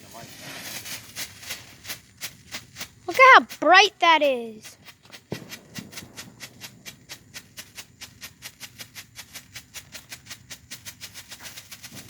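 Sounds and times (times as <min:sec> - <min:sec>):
firework popping rapidly: 0:00.0 - 0:12.0.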